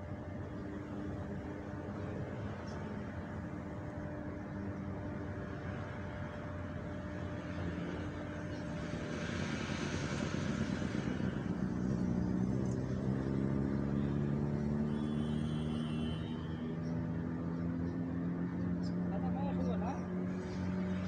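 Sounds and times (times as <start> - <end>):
car passing: 0.0 - 21.0
steady engine hum: 0.0 - 21.0.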